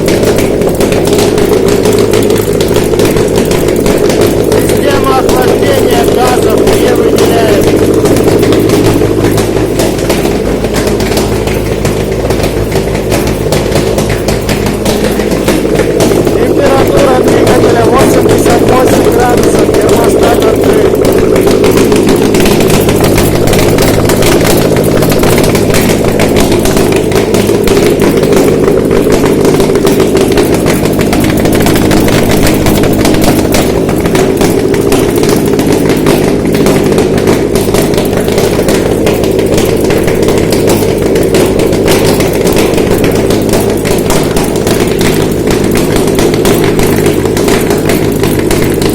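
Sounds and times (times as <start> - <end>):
engine running steadily: 0.0 - 48.9
rapid ticking clatter: 0.0 - 48.9.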